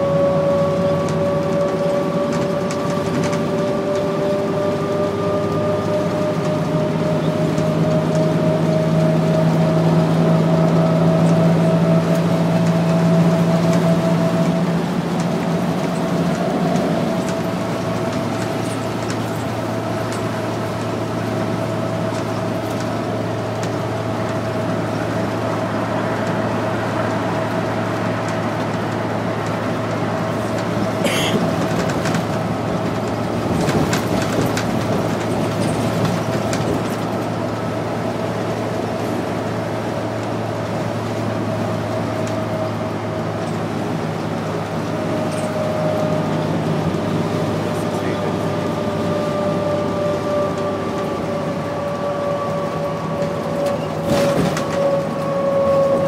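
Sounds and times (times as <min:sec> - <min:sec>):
bus engine humming: 0:00.0 - 0:56.0
road noise: 0:00.0 - 0:56.0
transmission whine: 0:00.0 - 0:56.0.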